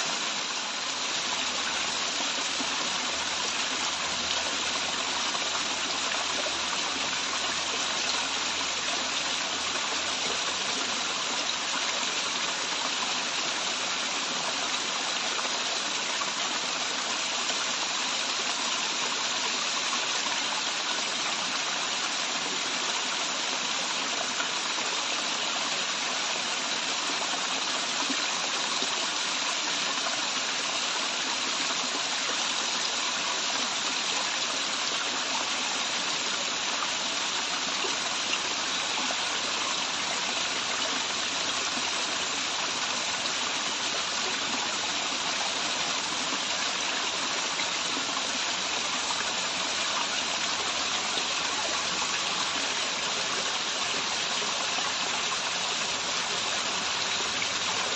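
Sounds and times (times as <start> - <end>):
waterfall rushing and splashing: 0.0 - 57.9.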